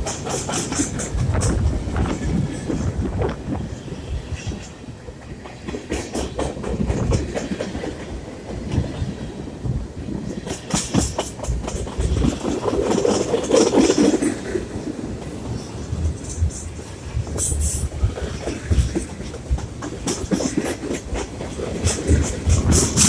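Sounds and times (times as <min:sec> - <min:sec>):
train wheels clicking over rail joints: 0:00.0 - 0:23.0.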